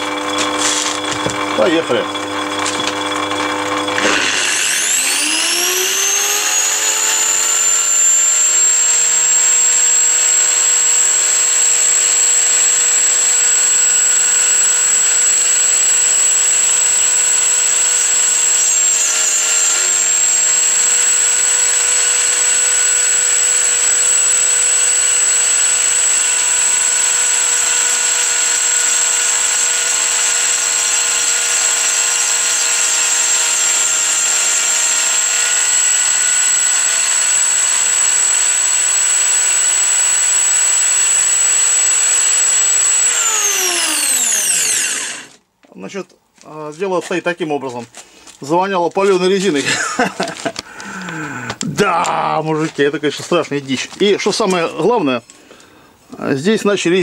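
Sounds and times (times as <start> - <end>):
grinder high whine: 0.0 - 45.5, 47.8 - 57.0.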